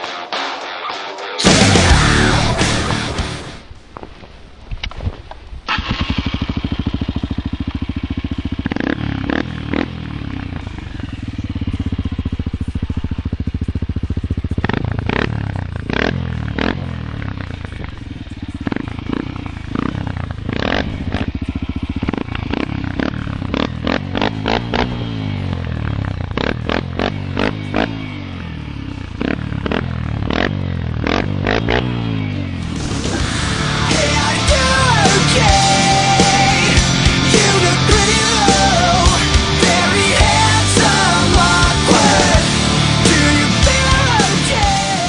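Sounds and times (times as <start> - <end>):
motorcycle engine revving: 1.4 - 45.0.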